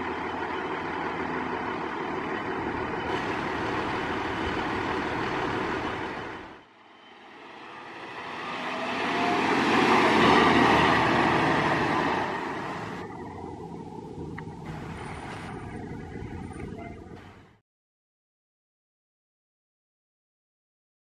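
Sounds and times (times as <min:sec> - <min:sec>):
diesel engine idling: 0:00.0 - 0:17.2
fire engine driving past: 0:00.0 - 0:17.6.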